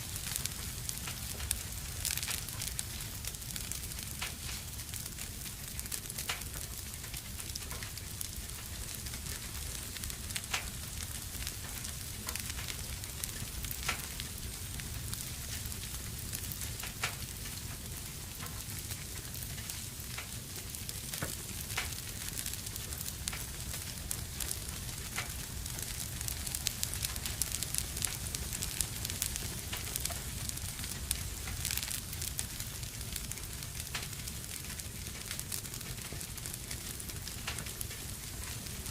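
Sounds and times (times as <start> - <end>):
wood fire crackling in fireplace: 0.0 - 38.9.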